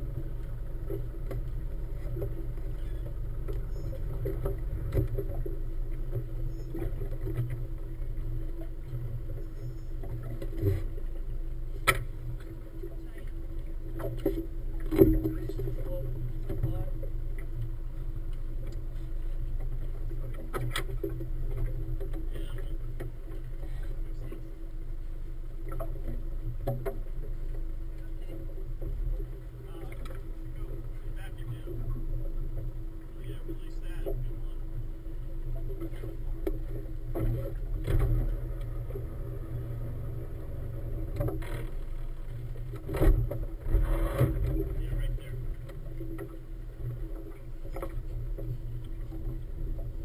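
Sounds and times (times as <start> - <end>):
motorboat engine idling: 0.0 - 50.0.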